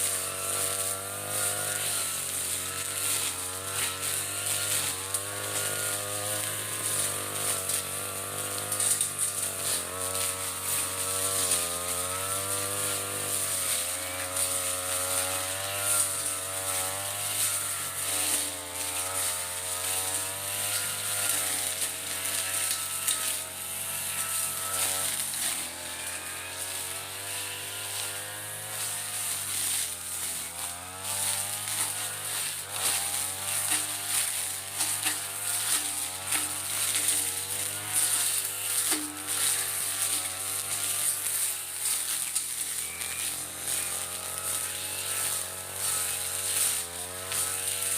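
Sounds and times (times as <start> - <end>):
brush cutter engine running: 0.0 - 47.9.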